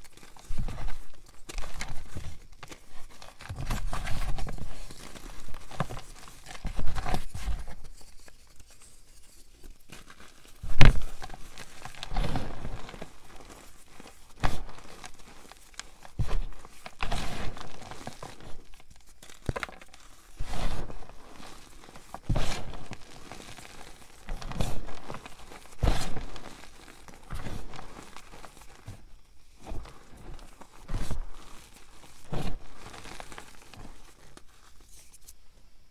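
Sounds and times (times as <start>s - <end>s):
powder crunching between hands: 0.0s - 35.4s.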